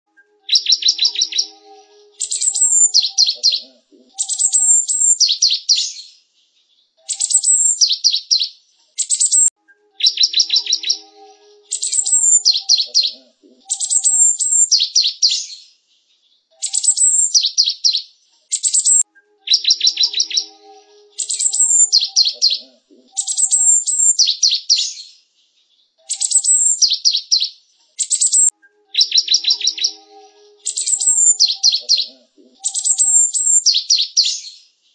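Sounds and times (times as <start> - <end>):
sparrow singing: 0.1 - 6.2, 7.0 - 15.7, 16.5 - 25.2, 26.0 - 34.6.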